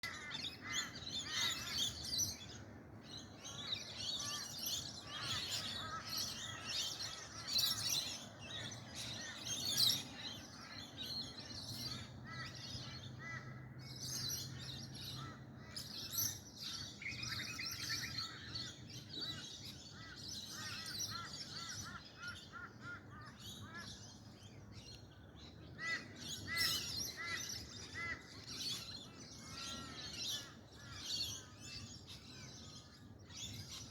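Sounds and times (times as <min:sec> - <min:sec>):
birds chirping and trilling: 0:00.0 - 0:33.9.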